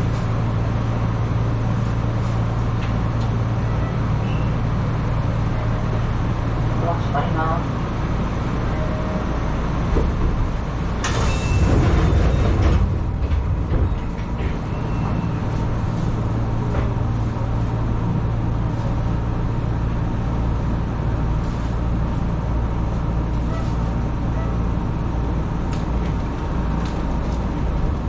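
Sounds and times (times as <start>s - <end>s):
train equipment humming: 0.0s - 28.0s.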